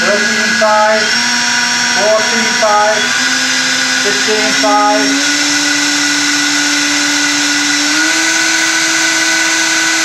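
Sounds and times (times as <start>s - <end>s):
router spindle motor whining: 0.0s - 10.0s.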